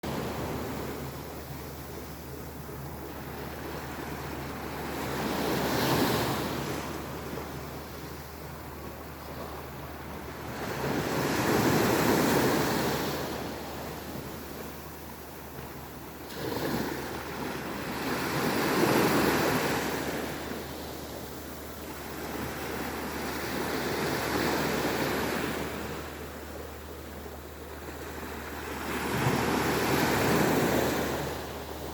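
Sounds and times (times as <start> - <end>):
sea waves breaking: 0.0 - 31.9.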